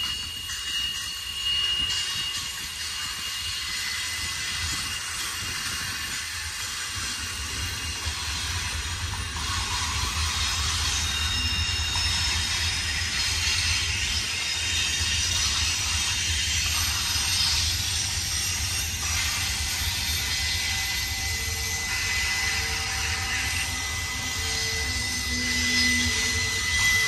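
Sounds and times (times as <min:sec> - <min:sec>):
freight train wheels rushing: 0:00.0 - 0:27.0
thin high squeals: 0:00.0 - 0:27.0.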